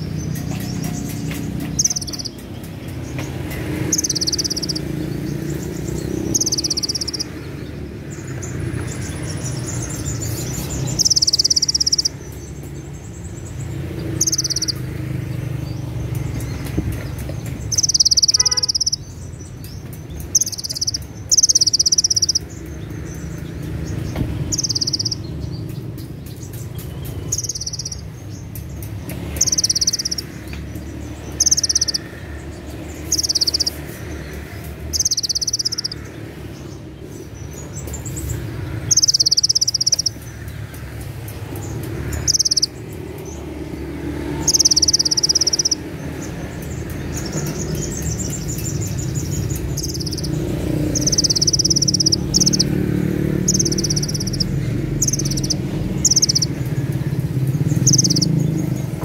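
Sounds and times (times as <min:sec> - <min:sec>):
bird singing shrill trills: 0:00.0 - 0:59.0.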